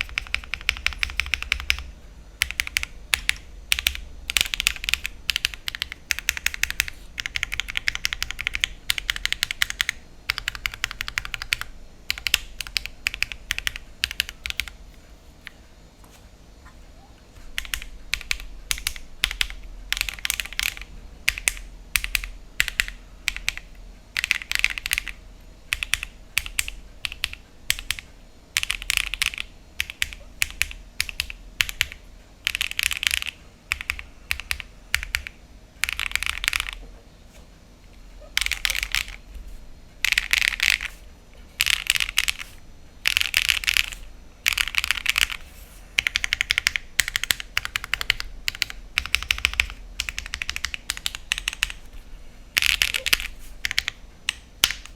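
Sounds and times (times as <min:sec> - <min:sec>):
mechanical keyboard typing: 0:00.0 - 0:15.6, 0:17.4 - 0:36.8, 0:38.2 - 0:39.4, 0:40.0 - 0:51.9, 0:52.5 - 0:54.9.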